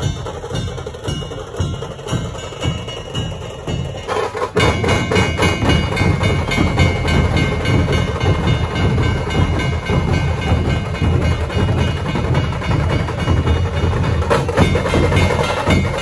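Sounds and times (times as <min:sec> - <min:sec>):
barrel drums beating fast rhythm: 0:00.0 - 0:16.0.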